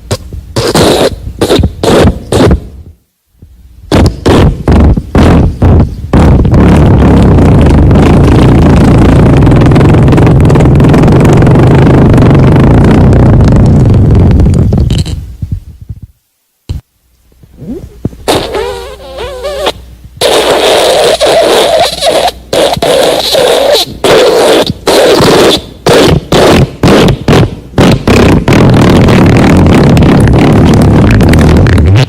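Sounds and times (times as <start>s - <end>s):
low buzzing fart: 0.0s - 3.0s, 3.9s - 15.2s, 17.5s - 32.0s
higher wavering fart sounds: 0.1s - 2.8s, 3.9s - 15.2s, 17.5s - 32.0s.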